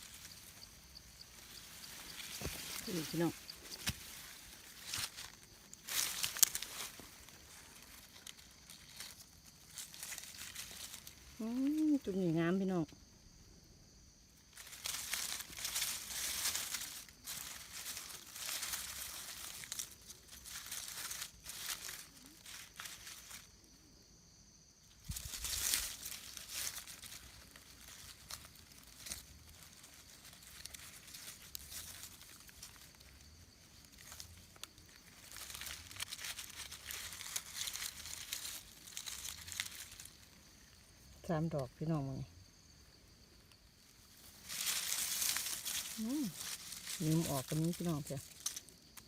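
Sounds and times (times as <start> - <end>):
dry leaves rustling: 0.0 - 49.0.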